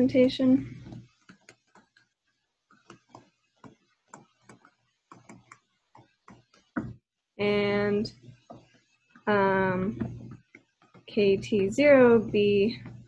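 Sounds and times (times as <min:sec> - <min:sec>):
stylus tapping on tablet screen: 0:00.7 - 0:07.0, 0:08.1 - 0:13.0.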